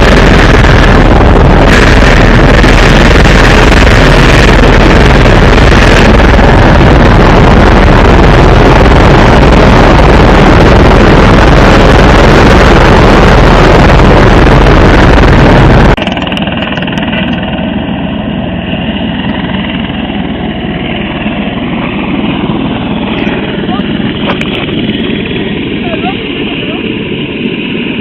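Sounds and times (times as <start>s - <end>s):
helicopter rotor and engine noise: 0.0s - 28.0s
steady whining tones: 0.0s - 28.0s.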